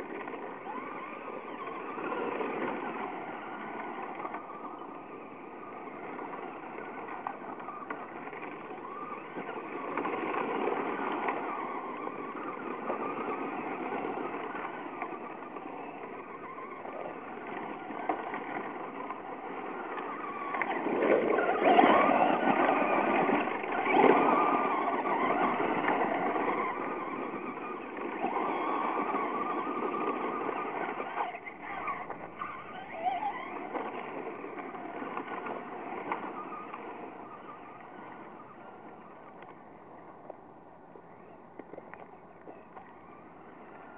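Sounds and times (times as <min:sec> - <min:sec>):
toy truck motor: 0:00.0 - 0:40.3, 0:41.2 - 0:43.9
tyres crunching on gravel: 0:00.1 - 0:40.4.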